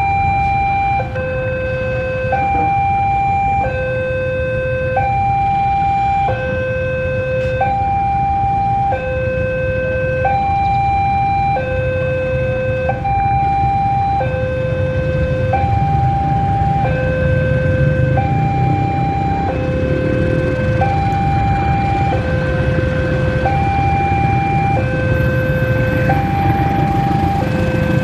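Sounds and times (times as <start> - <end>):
level crossing two-tone alarm: 0.0 - 28.0.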